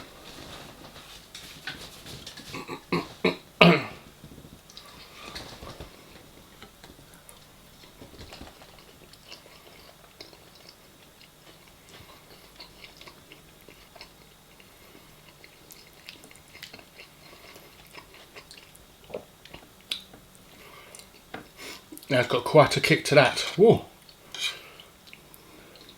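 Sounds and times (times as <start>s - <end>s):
person chewing food: 0.0s - 22.1s, 24.0s - 25.9s.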